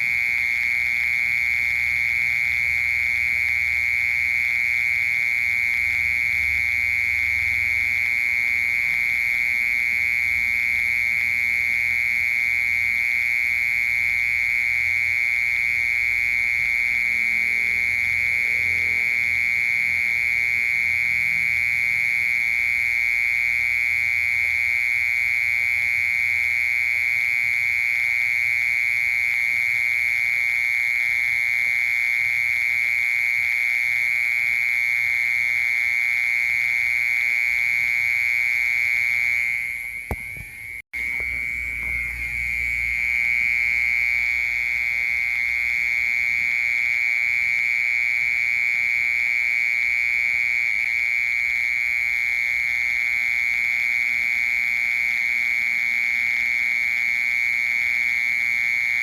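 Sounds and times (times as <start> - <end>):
mole cricket trilling: 0.0 - 59.0.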